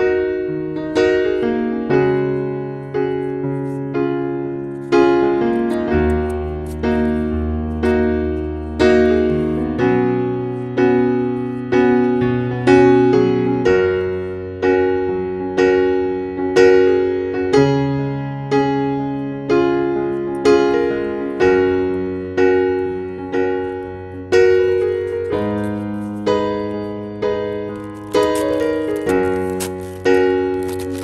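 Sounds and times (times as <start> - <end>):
gentle piano piece: 0.0 - 31.0.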